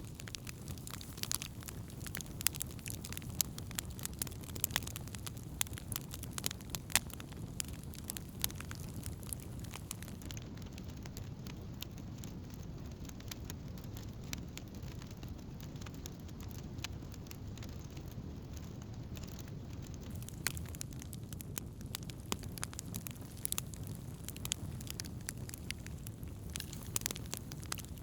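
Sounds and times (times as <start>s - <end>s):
campfire crackles and pops: 0.0s - 28.0s
low rumble of fire: 0.0s - 28.0s.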